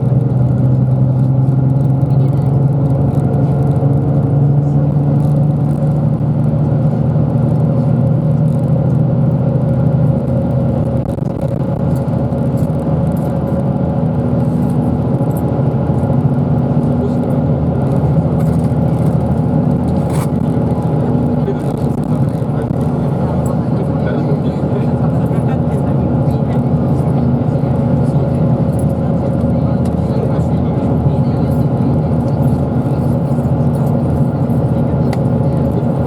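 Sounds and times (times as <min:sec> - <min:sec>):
bus engine hum: 0:00.0 - 0:36.0.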